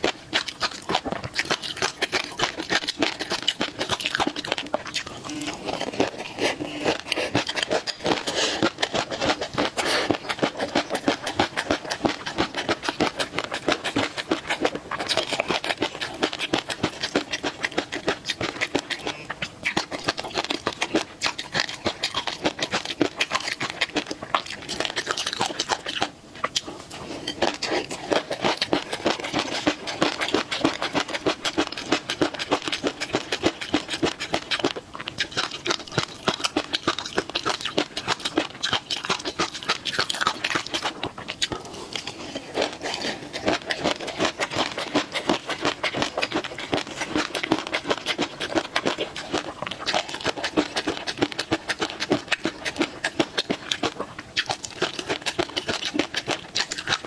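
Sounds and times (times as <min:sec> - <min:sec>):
wet mouth chewing: 0:00.0 - 0:57.0.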